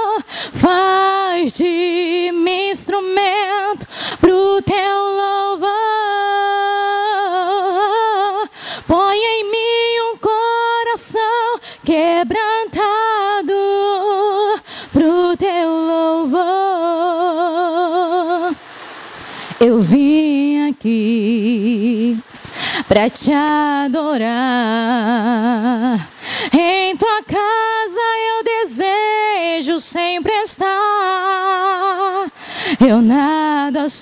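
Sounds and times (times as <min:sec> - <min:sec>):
woman singing a cappella: 0:00.0 - 0:18.6, 0:19.5 - 0:34.0.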